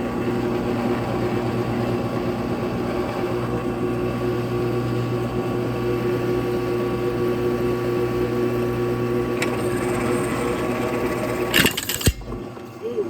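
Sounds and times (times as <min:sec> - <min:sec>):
drill press motor hum: 0:00.0 - 0:12.9.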